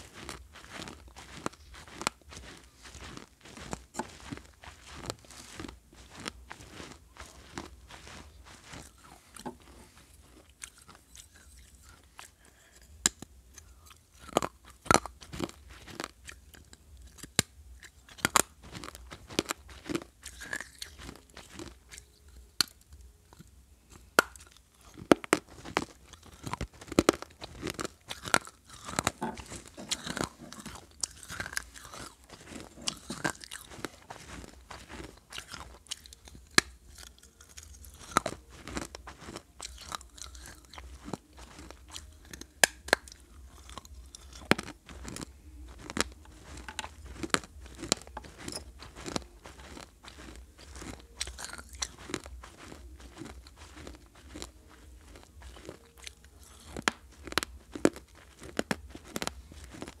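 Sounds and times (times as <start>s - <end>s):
crunching and chewing clay shards: 0.0s - 60.0s.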